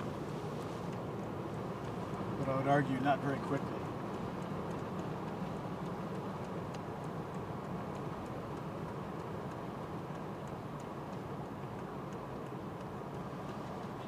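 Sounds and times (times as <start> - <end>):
vehicle rumble from inside: 0.0 - 14.0
faint ticks: 0.6 - 14.0.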